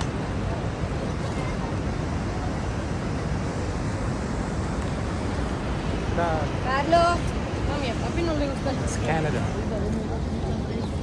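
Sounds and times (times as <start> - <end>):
waterfall roaring: 0.0 - 11.0
wind buffeting microphone: 0.0 - 11.0.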